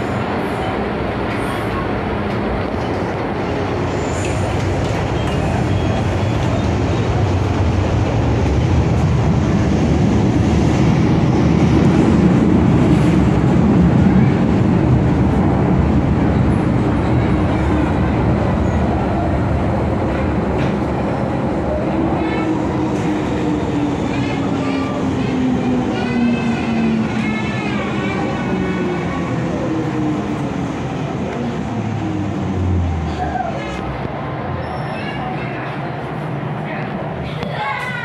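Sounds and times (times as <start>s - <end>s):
train wheels and motors rumbling: 0.0s - 38.0s.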